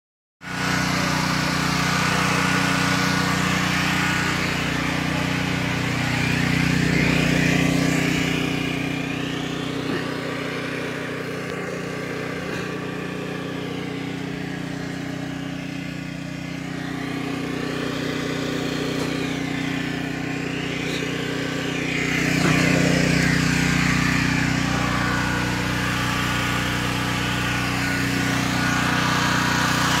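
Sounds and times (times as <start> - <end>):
generator engine running: 0.4 - 30.0.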